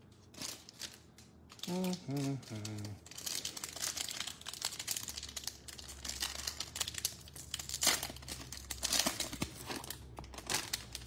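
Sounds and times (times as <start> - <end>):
foil wrapper tearing and crinkling: 0.3 - 11.0.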